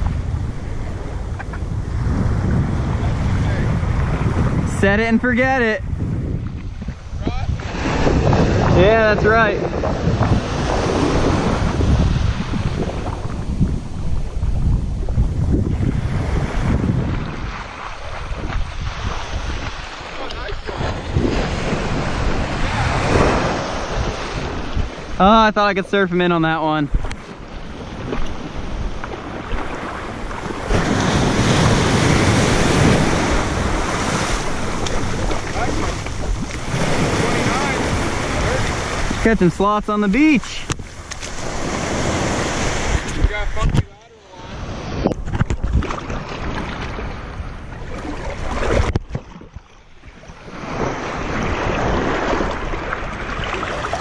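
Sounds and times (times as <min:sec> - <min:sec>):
waves washing over sand: 0:00.0 - 0:54.0
wind buffeting microphone: 0:00.0 - 0:54.0.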